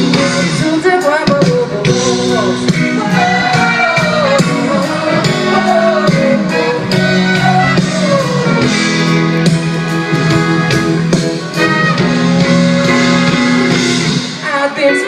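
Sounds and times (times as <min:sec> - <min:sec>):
live pop band instrumental: 0:00.0 - 0:15.0.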